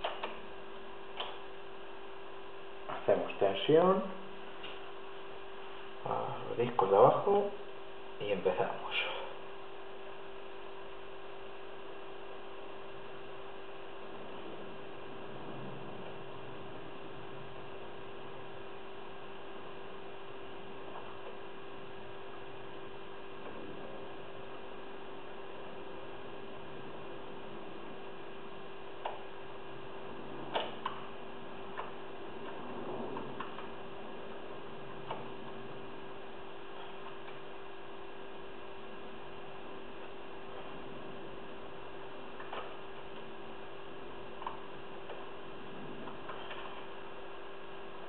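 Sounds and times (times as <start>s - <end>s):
electrical hum and hiss: 0.0s - 48.0s.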